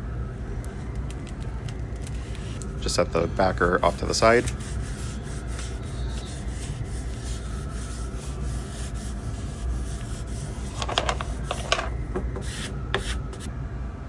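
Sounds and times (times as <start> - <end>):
squeegee rubbing over vinyl: 2.0 - 13.5.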